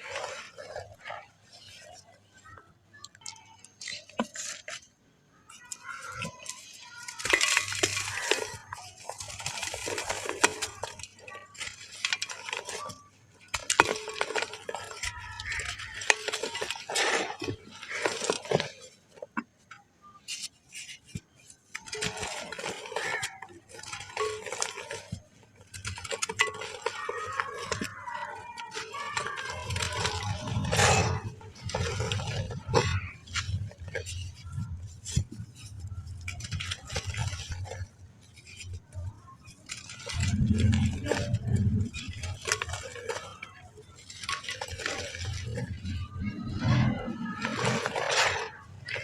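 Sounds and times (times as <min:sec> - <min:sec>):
sand crunching and crackling: 0:00.0 - 0:02.6, 0:05.5 - 0:49.0.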